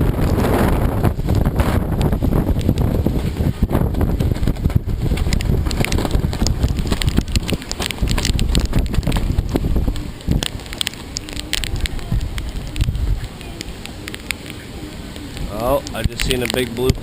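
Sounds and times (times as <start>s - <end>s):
wind buffeting microphone: 0.0s - 17.0s
sharp ticks and crackles: 1.1s - 17.0s.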